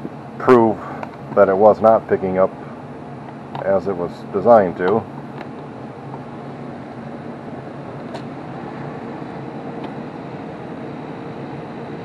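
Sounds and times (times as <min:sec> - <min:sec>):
machine whirring hum: 0:00.0 - 0:12.0.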